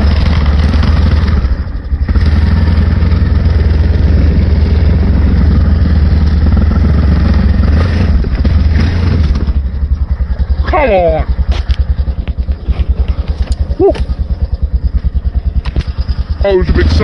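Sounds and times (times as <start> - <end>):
atv engine running under throttle: 0.0 - 17.0.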